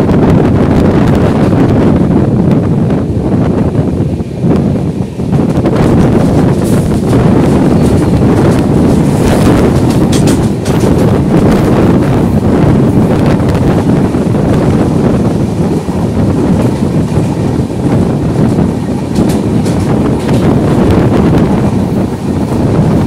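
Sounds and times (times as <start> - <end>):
train wheels rumbling on rails: 0.0 - 23.0
wind buffeting microphone: 0.0 - 23.0.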